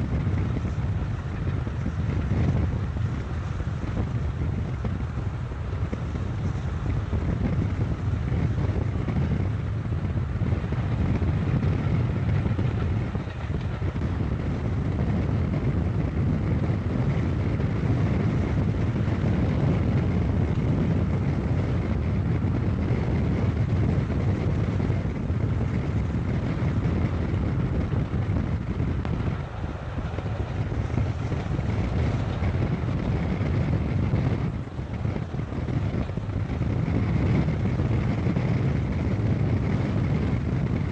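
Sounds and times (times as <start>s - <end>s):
moving car rumble: 0.0s - 40.9s
wind buffeting microphone: 0.0s - 40.9s.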